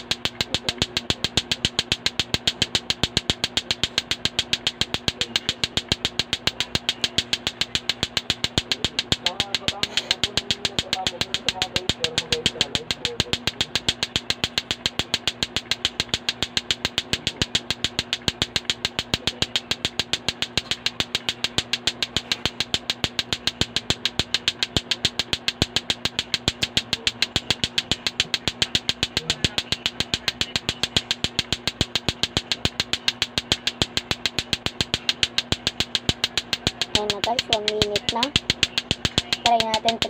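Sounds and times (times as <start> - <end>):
low hum: 0.0 - 40.0
plastic balls clacking: 0.0 - 40.0.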